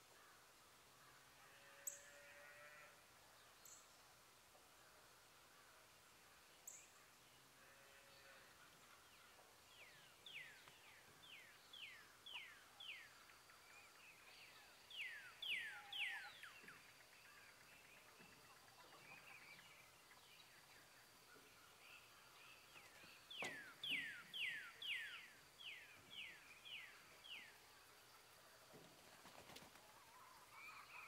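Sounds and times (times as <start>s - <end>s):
songbird singing: 2.8s - 31.0s.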